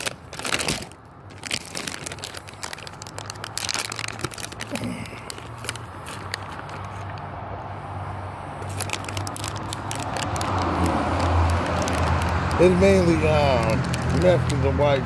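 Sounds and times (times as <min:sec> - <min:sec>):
crackling and rustling: 0:00.0 - 0:07.3, 0:08.6 - 0:14.8.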